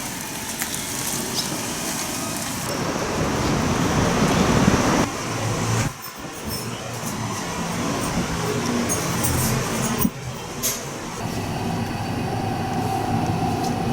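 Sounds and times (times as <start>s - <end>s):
road traffic: 0.0s - 13.9s.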